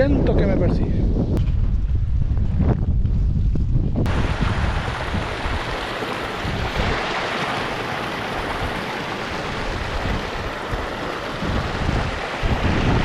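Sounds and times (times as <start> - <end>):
strong wind buffeting microphone: 0.0 - 7.3, 8.3 - 13.0.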